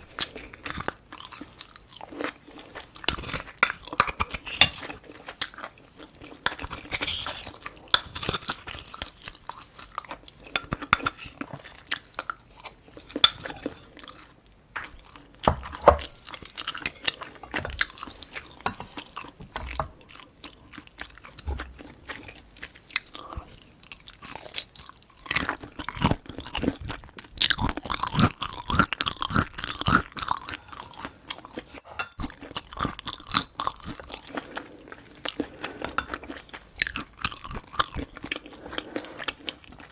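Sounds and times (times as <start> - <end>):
chewing food: 0.0 - 39.9.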